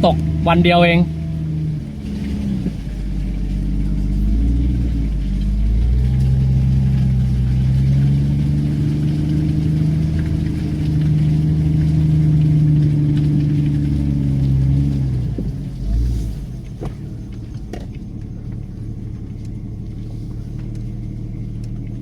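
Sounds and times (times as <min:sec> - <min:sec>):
off-road vehicle engine: 0:00.0 - 0:22.0.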